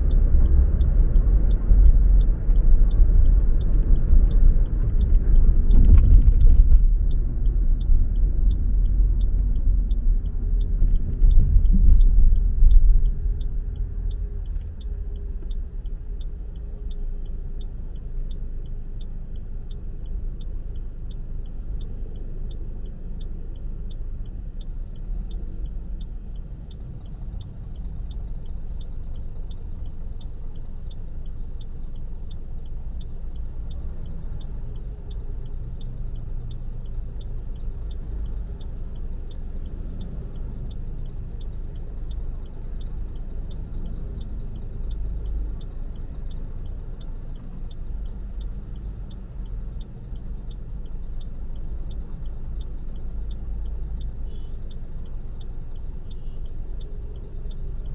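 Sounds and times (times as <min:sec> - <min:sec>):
car road and engine rumble: 0:00.0 - 0:57.9
high ticking: 0:07.0 - 0:57.9.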